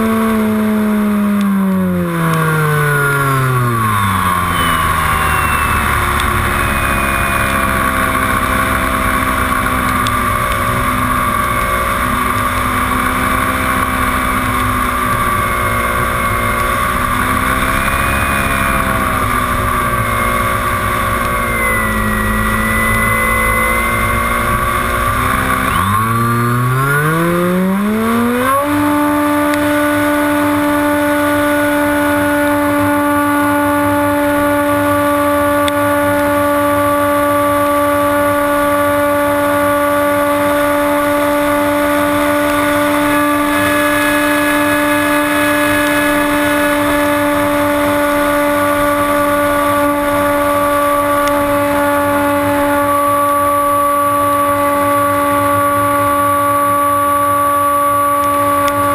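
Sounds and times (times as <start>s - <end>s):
electric motor and propeller whine: 0.0s - 58.9s.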